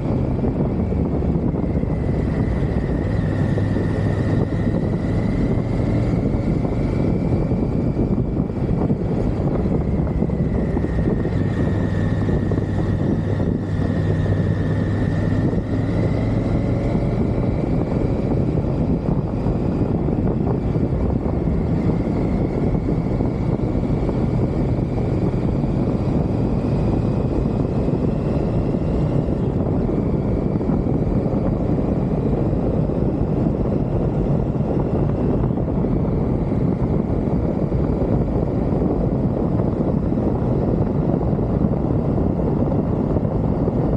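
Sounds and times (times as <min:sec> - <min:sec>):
motorcycle engine running: 0:00.0 - 0:43.9
wind rush on microphone: 0:00.0 - 0:43.9.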